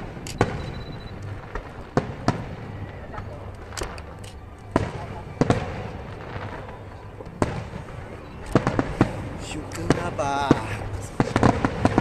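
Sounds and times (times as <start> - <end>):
firework shells bursting: 0.0 - 12.0
low rumbling haze: 0.0 - 12.0.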